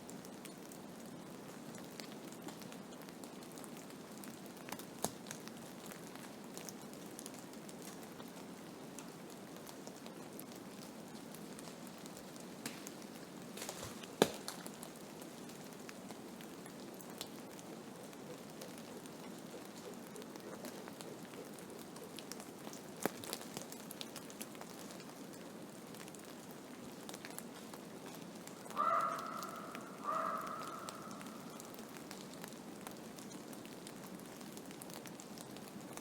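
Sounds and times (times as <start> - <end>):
rain pattering on a surface: 0.0 - 36.0.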